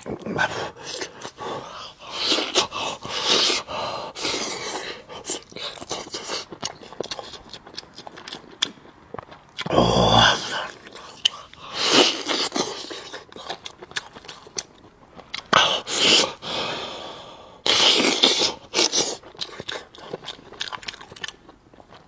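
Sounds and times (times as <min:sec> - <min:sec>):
person chewing food: 0:00.0 - 0:16.5, 0:17.7 - 0:22.0.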